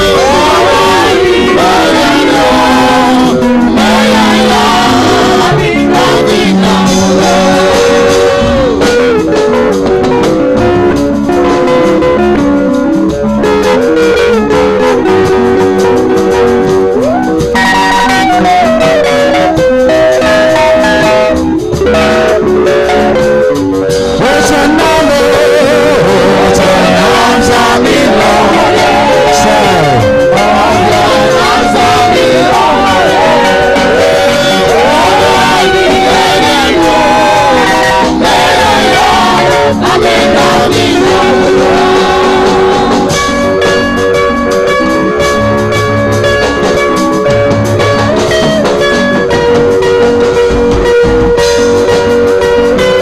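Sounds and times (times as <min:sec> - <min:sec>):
congregation singing: 0:00.0 - 0:09.7, 0:18.4 - 0:53.0
worship music with steady beat: 0:00.0 - 0:53.0.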